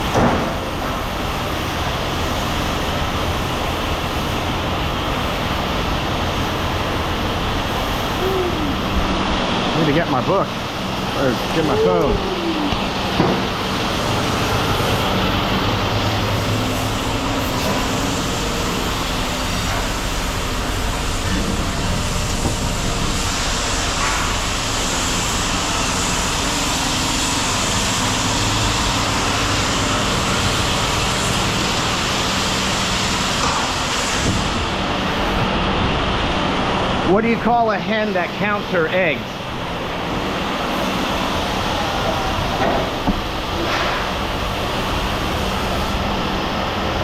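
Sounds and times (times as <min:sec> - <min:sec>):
machinery running with hiss and hum: 0:00.0 - 0:47.0.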